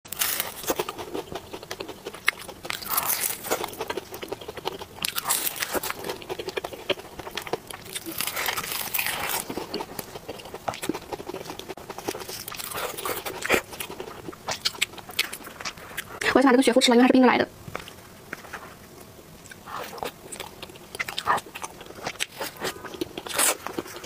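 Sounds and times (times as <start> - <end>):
chewing crisp pastry: 0.1 - 16.3, 17.8 - 24.0.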